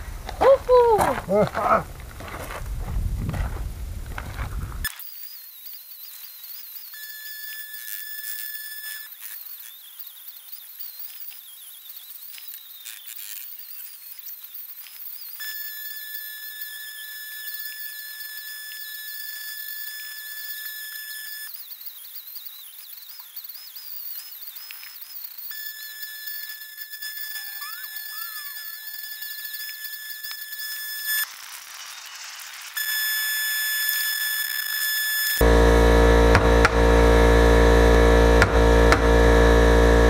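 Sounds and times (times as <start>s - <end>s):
angle grinder whining: 4.8s - 40.0s.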